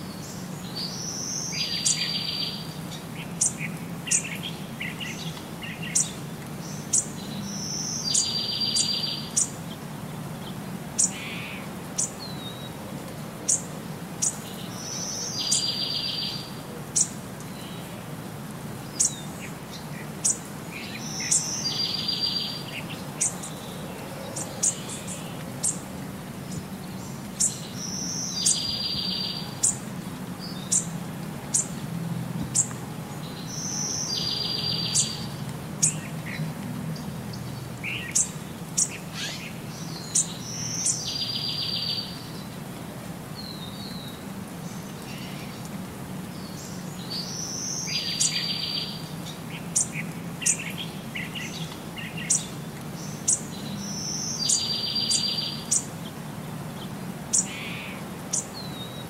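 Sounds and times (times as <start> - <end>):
birds chirping: 0.0 - 12.8, 13.5 - 18.0, 18.7 - 31.8, 32.4 - 42.6, 43.3 - 59.0.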